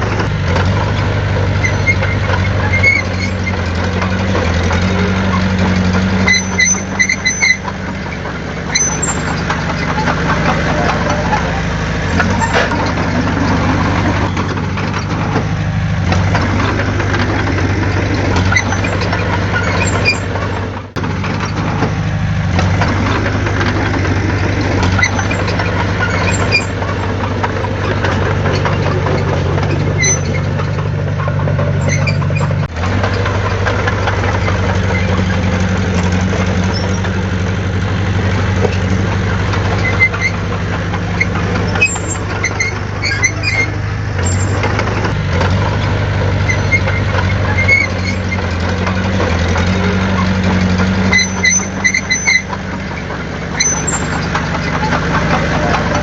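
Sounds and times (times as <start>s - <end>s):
heavy diesel machinery running: 0.0s - 56.0s
short high squeaks: 1.4s - 21.8s, 22.6s - 33.6s, 34.3s - 37.4s, 39.5s - 56.0s.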